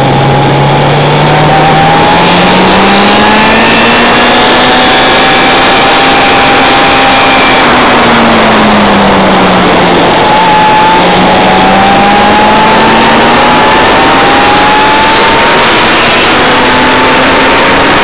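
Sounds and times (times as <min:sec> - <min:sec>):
motorcycle engine: 0:00.0 - 0:18.0
wind rush on microphone: 0:00.0 - 0:18.0.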